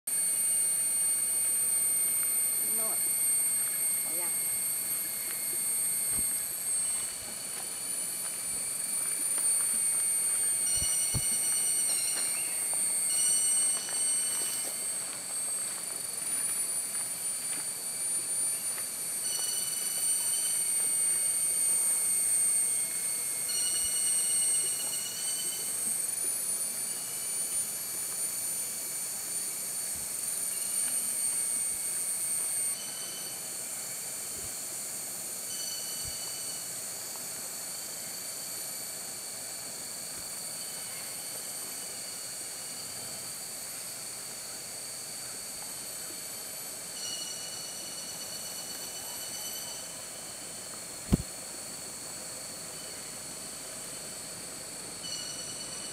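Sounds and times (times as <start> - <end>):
insects buzzing: 0.1 - 55.9.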